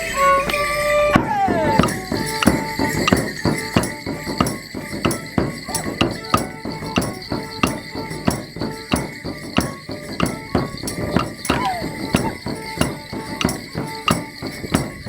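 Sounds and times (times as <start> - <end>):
band playing dance tune: 0.0 - 15.0
wooden sticks clashing: 0.2 - 15.0.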